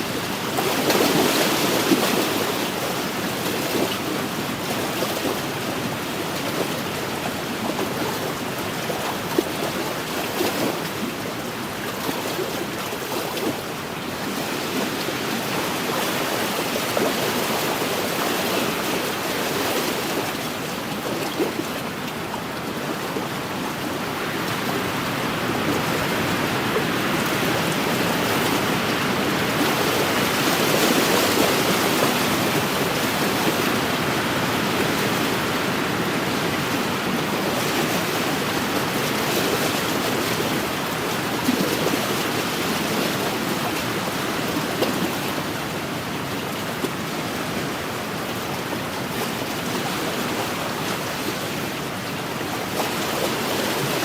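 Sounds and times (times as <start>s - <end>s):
waves washing against shore: 0.0s - 54.0s.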